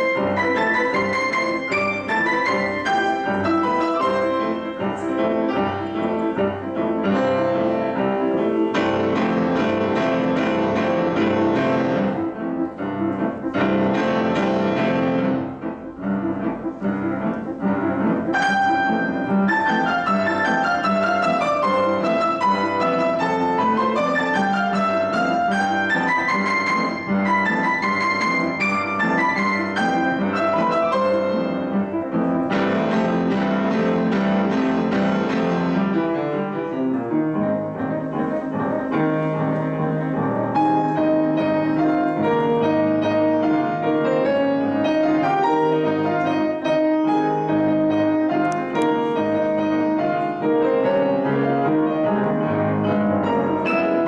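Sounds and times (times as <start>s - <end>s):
solo piano classical piece: 0.0s - 54.0s.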